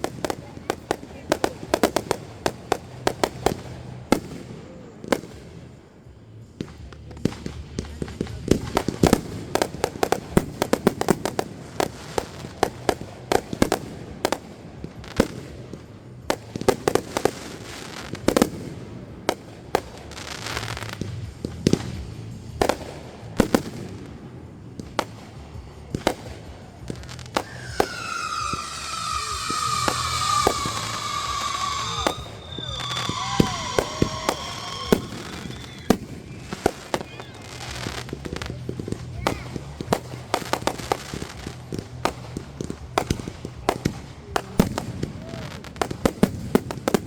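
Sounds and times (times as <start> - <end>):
fireworks banging and crackling: 0.0 - 47.0
whistling firework: 0.0 - 47.0.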